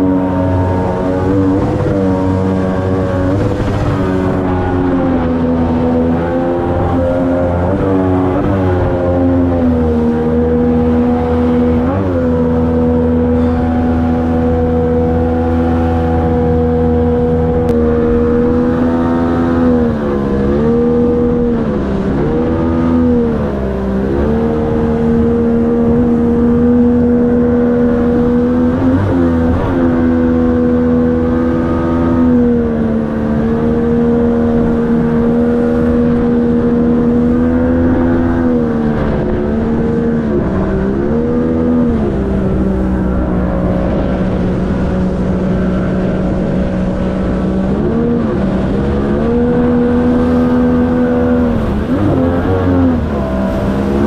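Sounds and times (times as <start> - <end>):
boat engine running at speed: 0.0 - 54.0.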